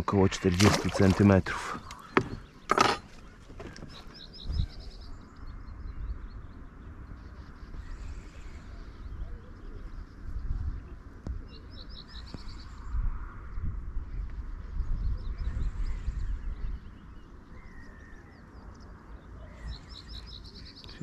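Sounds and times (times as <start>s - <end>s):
small bird singing: 1.8s - 13.0s, 14.6s - 21.0s.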